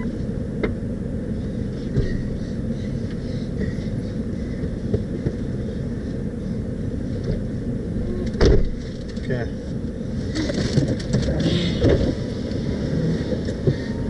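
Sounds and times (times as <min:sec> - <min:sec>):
pickup truck rumble: 0:00.0 - 0:14.0.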